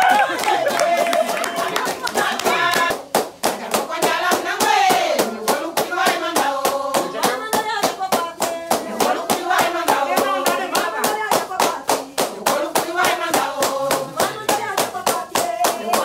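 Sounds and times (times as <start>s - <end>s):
fast hand clapping: 0.0s - 16.0s
women singing together: 0.0s - 16.0s.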